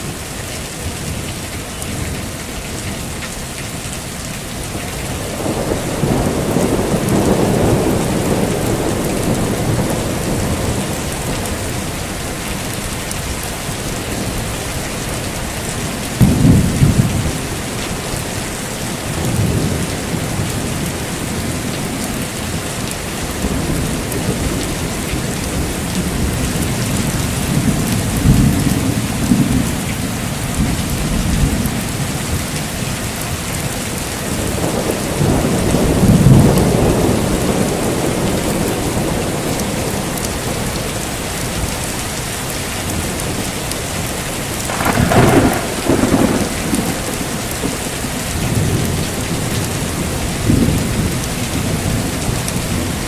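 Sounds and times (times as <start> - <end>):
heavy rain falling: 0.0 - 53.0
thunder rumbling and cracking: 4.5 - 53.0.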